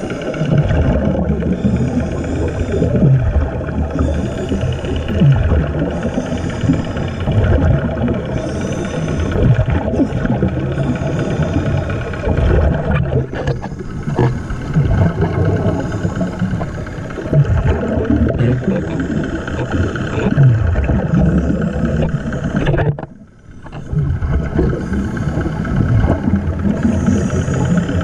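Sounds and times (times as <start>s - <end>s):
steady engine drone: 0.0s - 28.0s
underwater bubbling exhalations: 0.0s - 28.0s.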